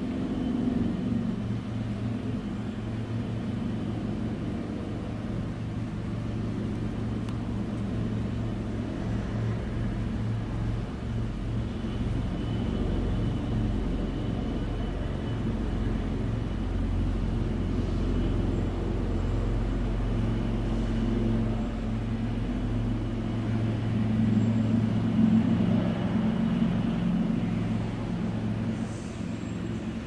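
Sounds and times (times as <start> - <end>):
helicopter engines and rotors rumbling: 0.0 - 30.0
high turbine whine: 0.0 - 30.0.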